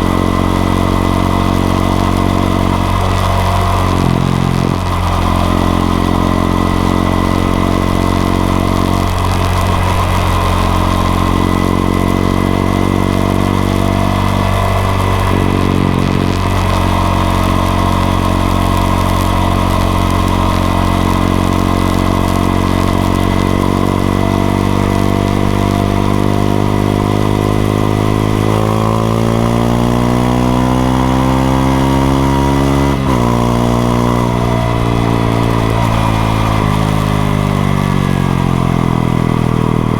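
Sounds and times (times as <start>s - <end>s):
motorcycle engine running and revving: 0.0s - 39.9s.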